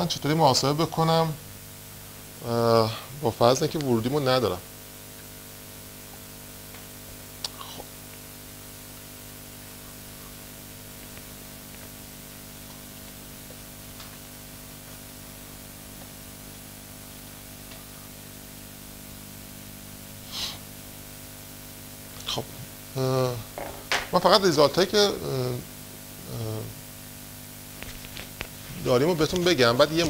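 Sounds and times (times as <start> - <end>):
hiss and electrical hum: 0.0 - 30.0.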